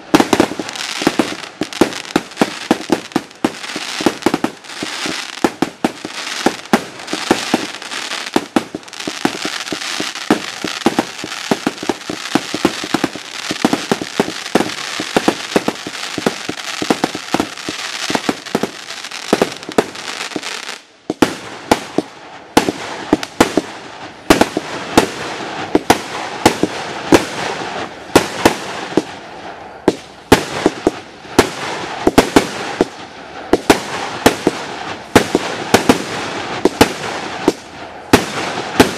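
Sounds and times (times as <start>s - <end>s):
firework shots bursting: 0.0s - 29.2s, 29.9s - 38.9s
firework crackling: 0.0s - 38.9s
firework hiss: 0.0s - 38.9s.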